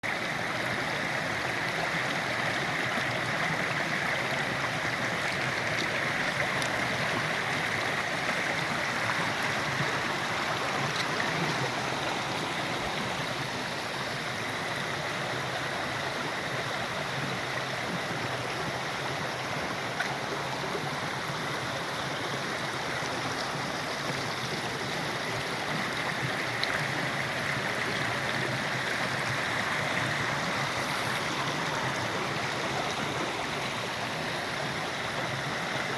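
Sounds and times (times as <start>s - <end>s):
stream flowing: 0.0s - 35.9s.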